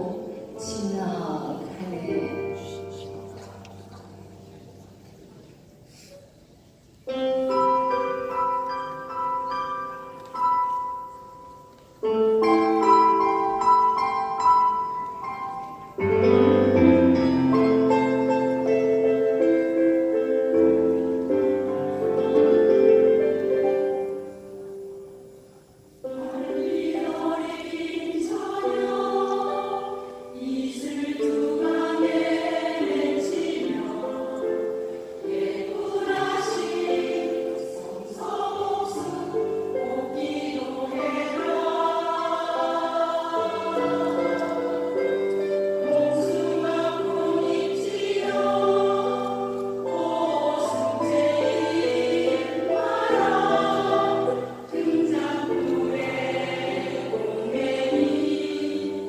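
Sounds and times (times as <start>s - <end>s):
choir singing: 0.0s - 5.2s, 12.0s - 59.0s.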